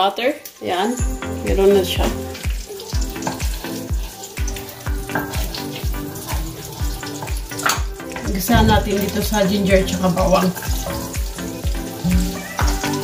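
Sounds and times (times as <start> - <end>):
butter sizzling in a pot: 0.0 - 13.0
background music with deep thumps: 1.0 - 13.0.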